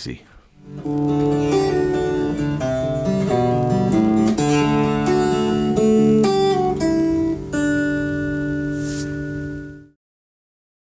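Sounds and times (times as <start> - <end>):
acoustic guitar music: 0.5 - 10.0.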